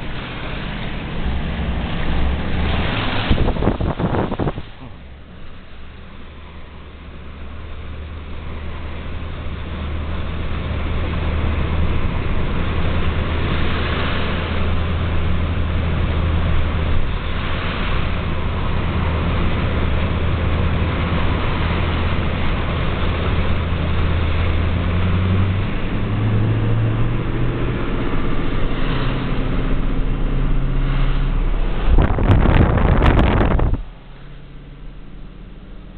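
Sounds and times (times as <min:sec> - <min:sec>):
vehicle engine humming: 0:00.0 - 0:35.9.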